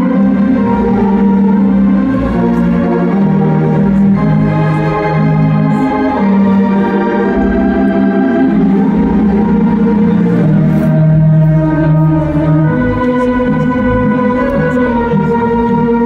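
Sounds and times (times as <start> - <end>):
pipe organ playing chords: 0.0 - 16.0.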